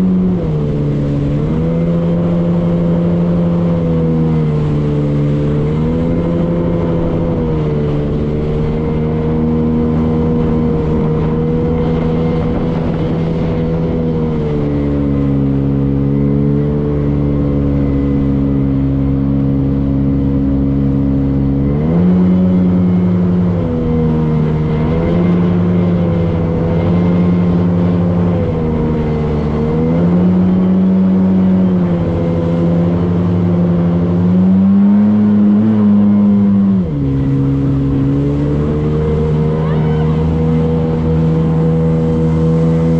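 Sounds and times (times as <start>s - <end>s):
motorboat engine running: 0.0s - 42.9s.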